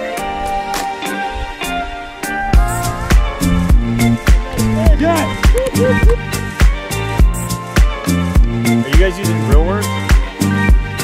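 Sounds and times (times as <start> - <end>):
electronic background music: 0.0 - 11.0.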